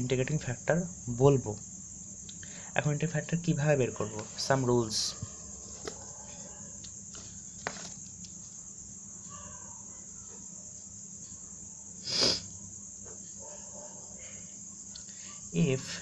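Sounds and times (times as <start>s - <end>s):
high-pitched background hiss: 0.0s - 16.0s.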